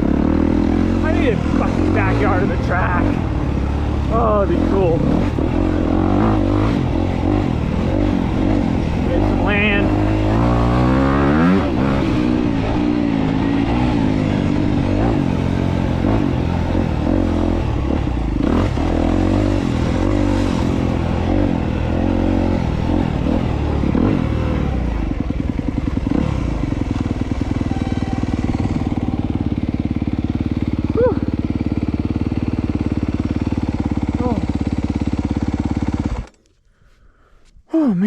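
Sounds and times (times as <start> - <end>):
motorcycle engine revving: 0.0 - 36.5.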